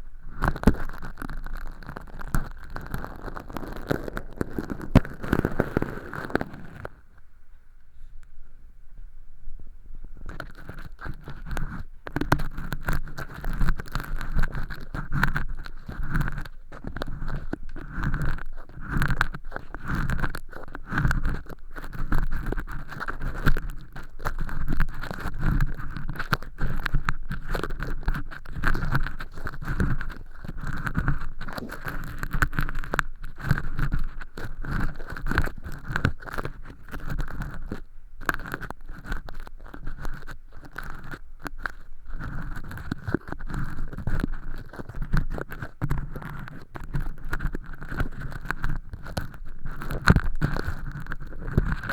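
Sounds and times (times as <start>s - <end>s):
ear pick scraping: 0.0s - 8.3s, 10.0s - 51.9s.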